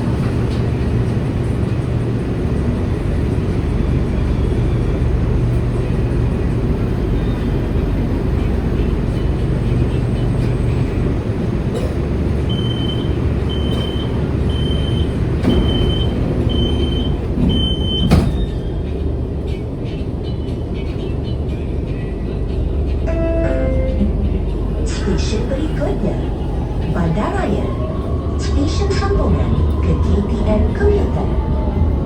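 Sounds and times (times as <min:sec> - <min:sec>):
train interior rumble: 0:00.0 - 0:32.0.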